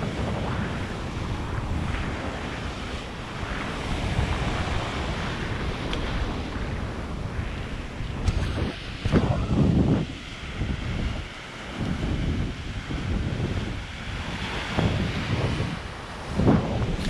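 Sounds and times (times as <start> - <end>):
ocean surf breaking on rock: 0.0 - 17.0
wind buffeting microphone: 0.0 - 17.0.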